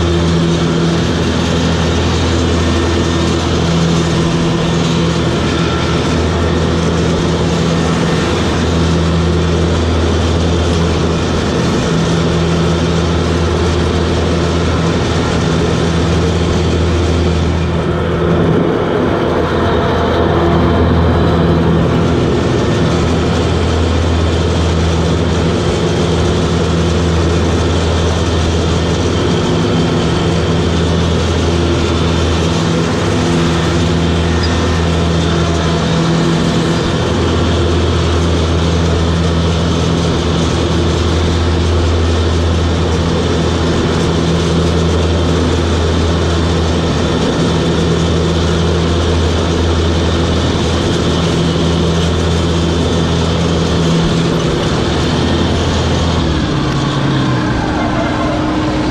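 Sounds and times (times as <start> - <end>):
ride-on mower engine drone: 0.0 - 58.9.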